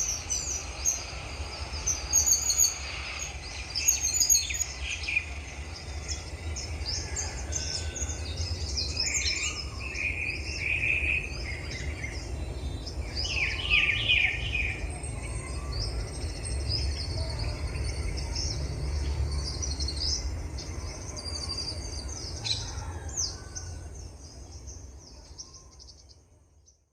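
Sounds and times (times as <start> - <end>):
small birds chirping and singing: 0.0 - 26.9.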